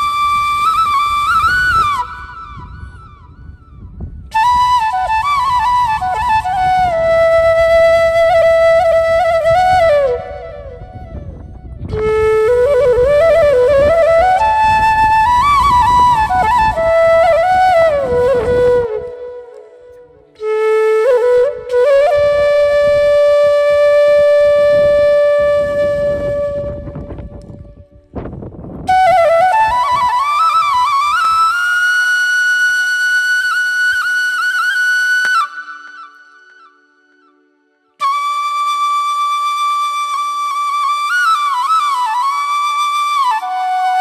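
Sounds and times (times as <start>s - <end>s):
solo flute melody: 0.0s - 44.0s.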